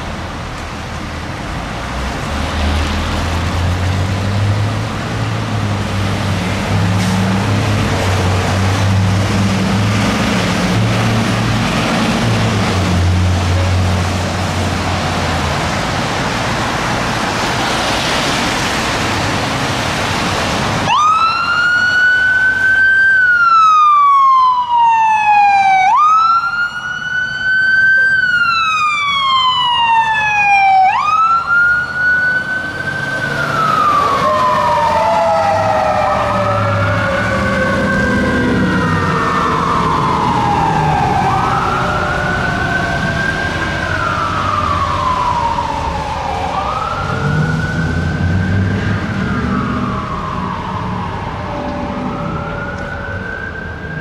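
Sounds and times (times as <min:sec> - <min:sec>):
passing car: 0:00.0 - 0:54.0
truck engine rumble: 0:00.0 - 0:54.0
fire engine siren wailing: 0:02.1 - 0:54.0.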